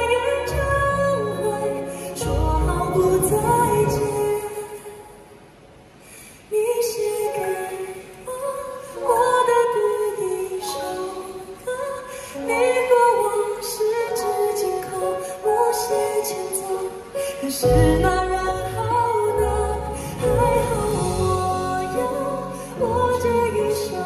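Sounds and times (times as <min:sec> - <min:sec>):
grand piano: 0:00.0 - 0:24.0.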